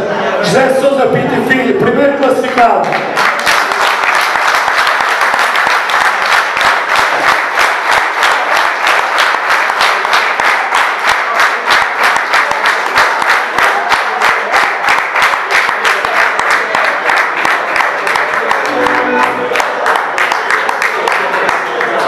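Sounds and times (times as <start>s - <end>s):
crowd applauding: 2.2s - 22.0s.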